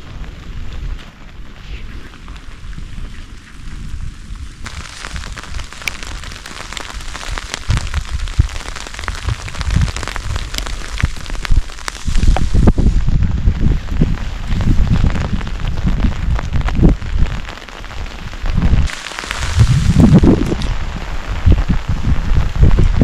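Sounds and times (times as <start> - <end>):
dense patter of sharp ticks: 0.0 - 13.0, 13.6 - 23.0
wind gusting on microphone: 0.0 - 23.0.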